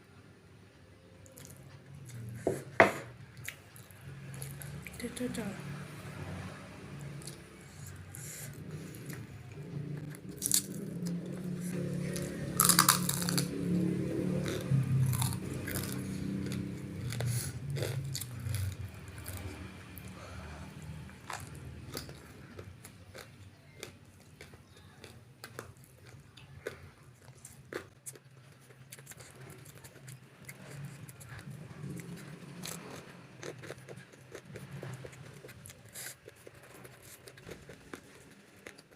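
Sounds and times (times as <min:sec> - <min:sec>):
chewing and crunching food: 0:01.2 - 0:38.9.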